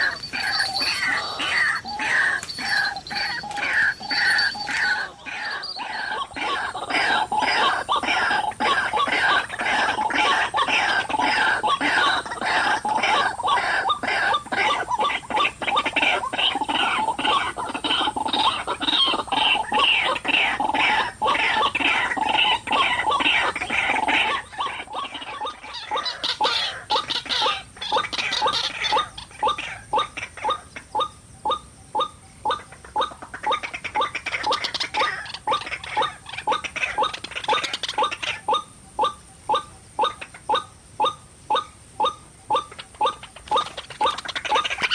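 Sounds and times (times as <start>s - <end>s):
waterhen calling: 0.0s - 44.9s.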